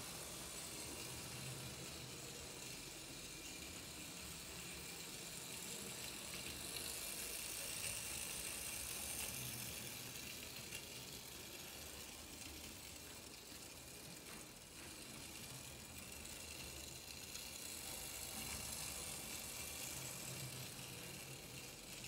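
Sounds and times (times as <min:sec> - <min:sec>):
clockwork toy train whirring: 0:00.0 - 0:22.0.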